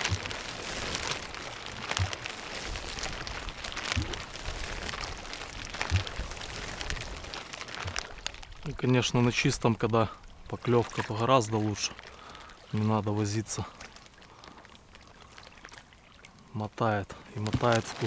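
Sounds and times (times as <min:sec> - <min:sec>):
oars splashing water: 0:00.0 - 0:18.0
rain: 0:00.0 - 0:18.0
wind: 0:00.0 - 0:18.0.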